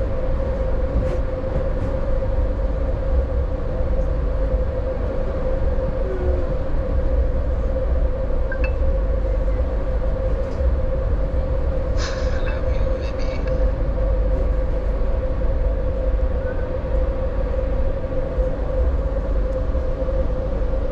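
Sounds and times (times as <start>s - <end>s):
constant train hum: 0.0s - 20.9s
train wheels rumbling on rails: 0.0s - 20.9s.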